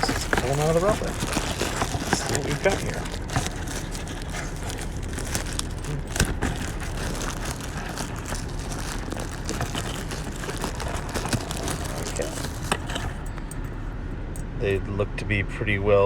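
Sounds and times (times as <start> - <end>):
plastic wrapper crinkling: 0.0 - 13.3.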